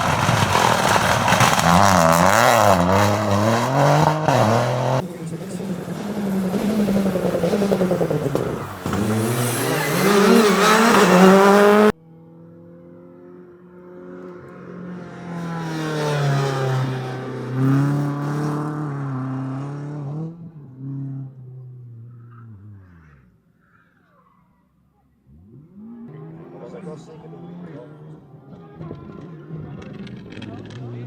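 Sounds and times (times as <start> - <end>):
rally car accelerating past: 0.0 - 23.2, 25.3 - 31.0
rally car engine revving: 0.0 - 23.3, 25.2 - 31.0.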